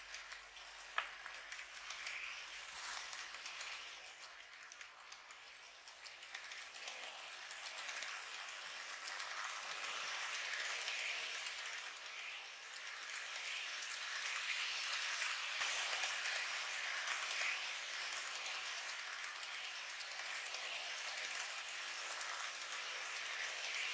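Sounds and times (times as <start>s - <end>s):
model train motor whirring: 0.0s - 23.9s.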